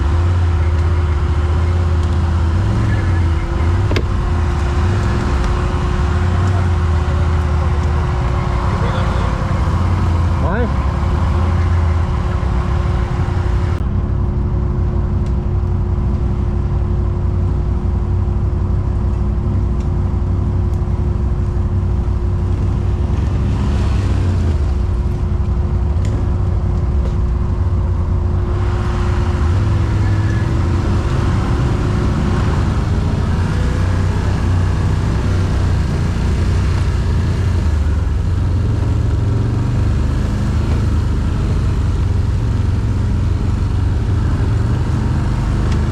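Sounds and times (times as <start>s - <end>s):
quad bike engine running: 0.0s - 13.9s, 14.8s - 45.9s.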